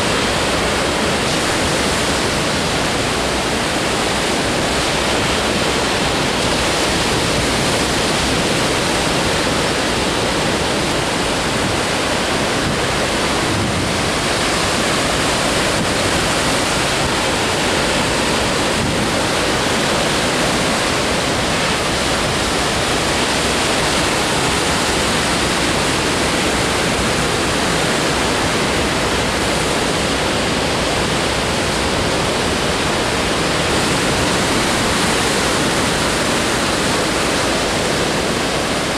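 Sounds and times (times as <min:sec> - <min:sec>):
ocean surf roar: 0:00.0 - 0:38.9.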